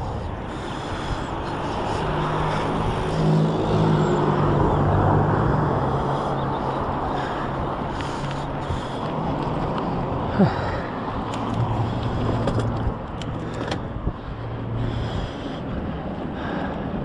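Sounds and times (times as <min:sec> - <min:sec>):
cars passing: 0:00.0 - 0:17.0
low engine hum: 0:00.0 - 0:17.0.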